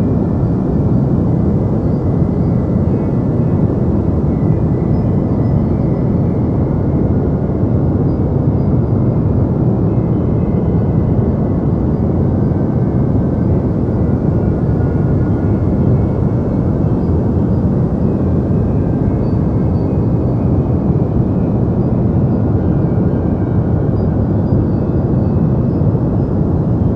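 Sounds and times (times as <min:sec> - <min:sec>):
deep white noise: 0:00.0 - 0:26.8.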